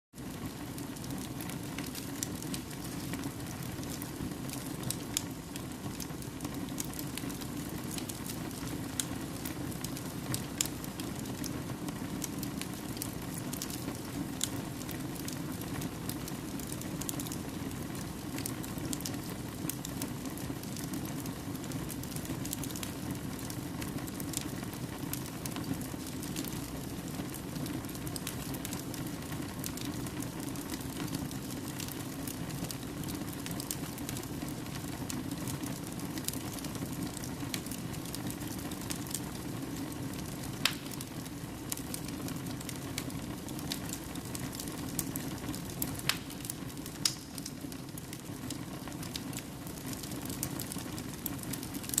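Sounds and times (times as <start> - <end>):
fire crackling in a fireplace: 0.2 - 52.0.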